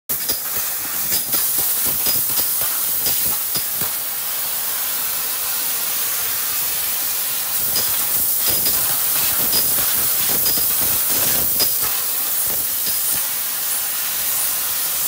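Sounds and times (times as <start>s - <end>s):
laser cutter gas jet hissing: 0.1s - 15.0s.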